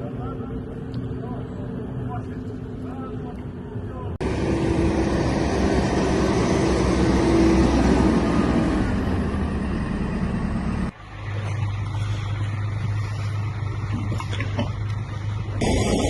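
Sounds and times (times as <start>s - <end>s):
vehicle engine hum: 0.0s - 16.0s.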